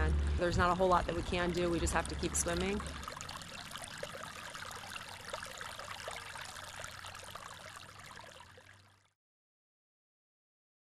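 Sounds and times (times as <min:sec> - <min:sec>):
stream water trickling: 0:00.0 - 0:09.2.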